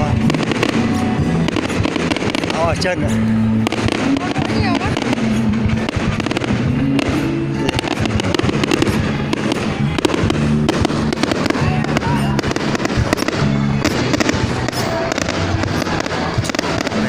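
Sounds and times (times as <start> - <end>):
fireworks crackling and popping: 0.0 - 17.0
music playing: 0.0 - 17.0.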